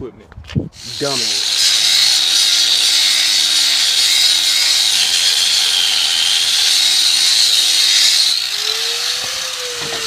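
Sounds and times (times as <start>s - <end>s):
angle grinder grinding metal: 0.8s - 10.0s.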